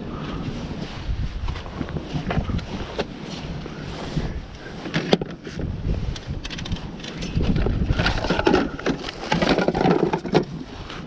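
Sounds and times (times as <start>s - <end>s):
wind buffeting microphone: 0.0s - 11.0s
scraping or crunching noise: 0.3s - 11.0s.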